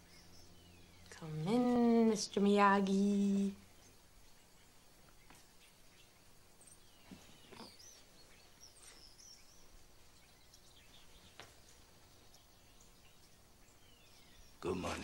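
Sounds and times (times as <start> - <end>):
soft bird chirps: 0.0 - 15.0.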